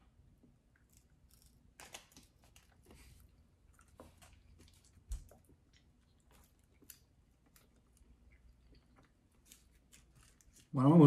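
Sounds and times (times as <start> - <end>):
chewing chewy candy: 0.5 - 10.8.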